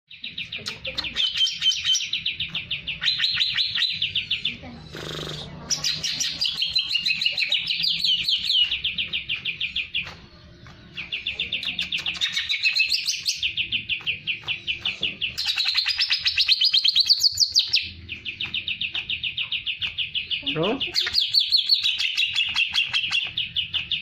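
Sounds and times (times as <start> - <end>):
bird singing chattering song: 0.1 - 24.0.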